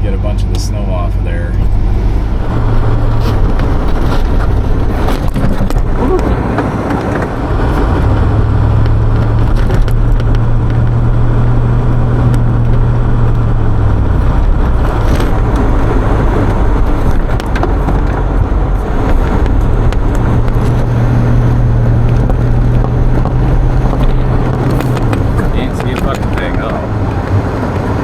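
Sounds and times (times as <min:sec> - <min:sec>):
continuous rumble: 0:00.0 - 0:28.0
truck engine drone: 0:00.0 - 0:28.0.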